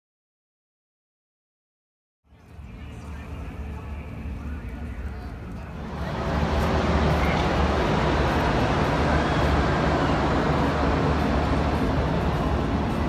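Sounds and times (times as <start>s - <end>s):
race car engines roaring: 2.5s - 13.0s.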